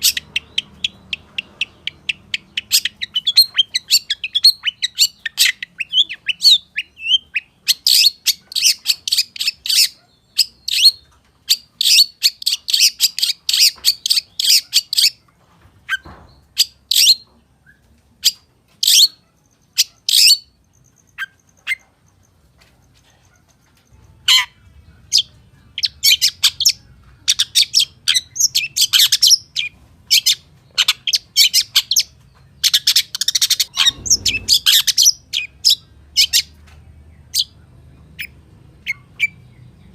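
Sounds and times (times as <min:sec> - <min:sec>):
bird singing high chirps: 0:00.0 - 0:15.2, 0:16.0 - 0:21.9, 0:24.3 - 0:39.9.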